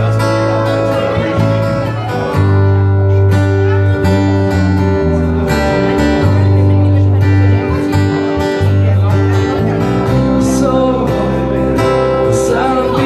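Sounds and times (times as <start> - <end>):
acoustic guitar strumming chords: 0.0 - 13.0
electric bass line: 0.0 - 13.0.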